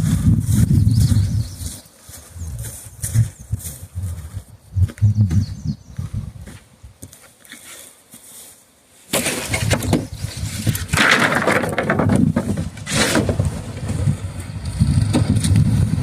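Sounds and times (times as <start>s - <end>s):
strong wind buffeting microphone: 0.0s - 7.1s, 9.5s - 16.0s.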